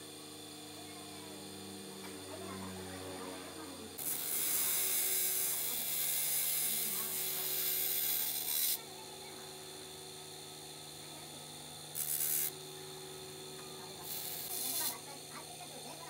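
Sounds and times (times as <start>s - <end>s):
grinding wheel humming: 0.0s - 16.0s.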